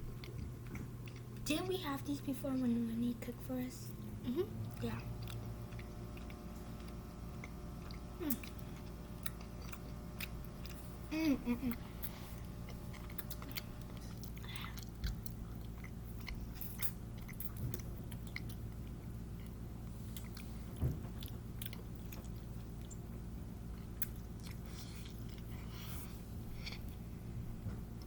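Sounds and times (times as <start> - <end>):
people chewing: 0.0 - 3.1, 3.8 - 28.0
low hum: 0.0 - 28.0.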